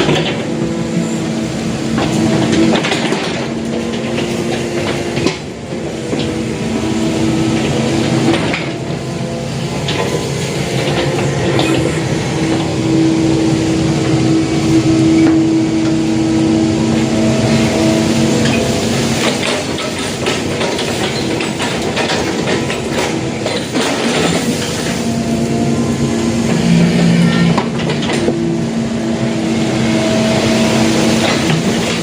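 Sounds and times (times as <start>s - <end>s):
excavator engine hum: 0.0s - 32.0s
excavator whine: 0.0s - 32.0s.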